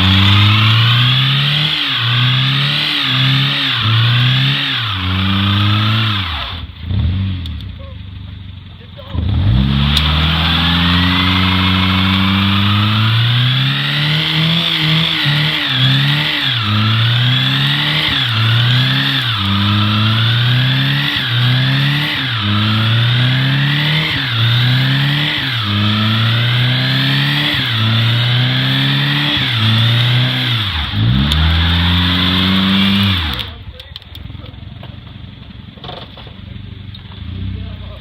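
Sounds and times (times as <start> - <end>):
car engine revving high: 0.0 - 7.6, 9.1 - 33.6.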